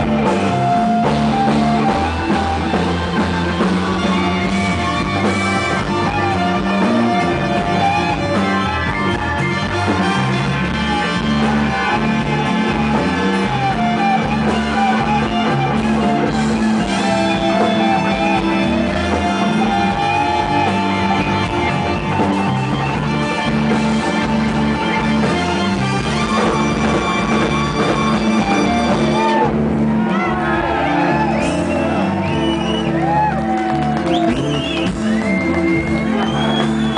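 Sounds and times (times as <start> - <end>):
bass and drums: 0.0 - 36.9
electric guitar lead: 0.0 - 36.9.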